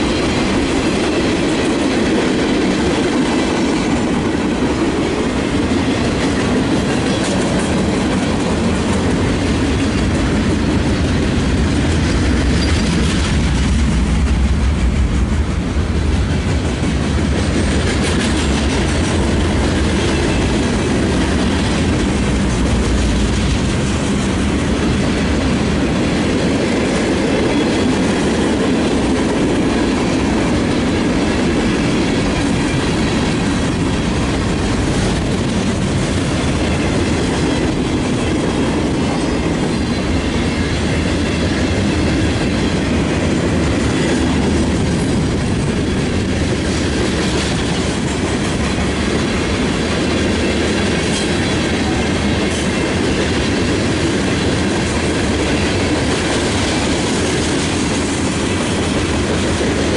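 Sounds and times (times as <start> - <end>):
freight train wheels rattling: 0.0 - 59.9.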